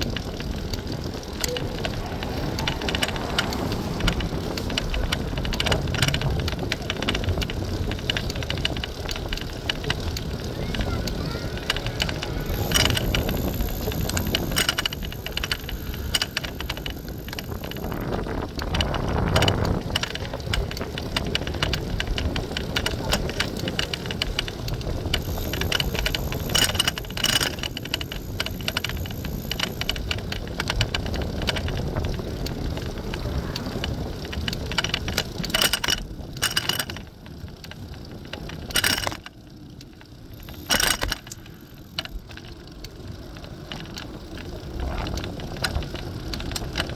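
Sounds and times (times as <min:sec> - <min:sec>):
bicycle riding rumble: 0:00.0 - 0:46.9
bike clicks and rattles: 0:00.0 - 0:46.9.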